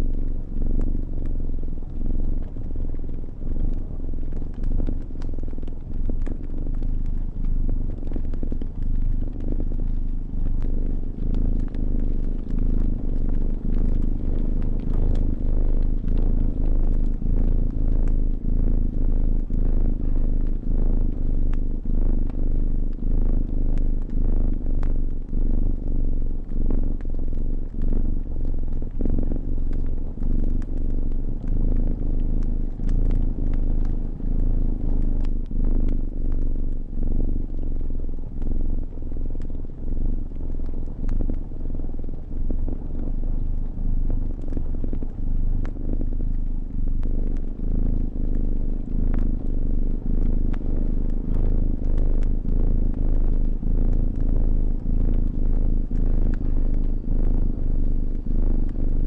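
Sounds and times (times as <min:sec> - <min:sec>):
cat purring: 0:00.0 - 0:59.0
wood fire crackling: 0:00.2 - 0:50.6.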